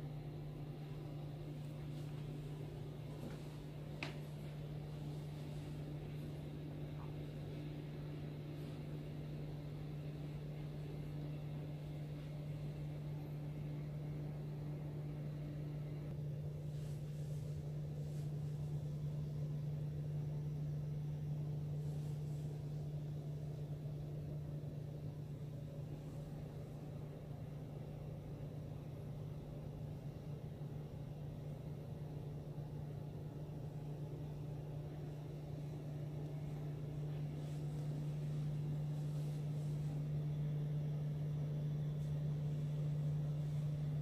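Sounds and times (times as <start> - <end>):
low machinery hum: 0.0 - 44.0.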